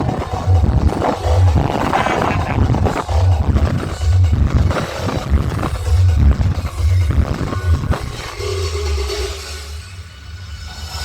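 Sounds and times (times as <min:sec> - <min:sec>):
loud dance music with heavy bass: 0:00.0 - 0:09.2.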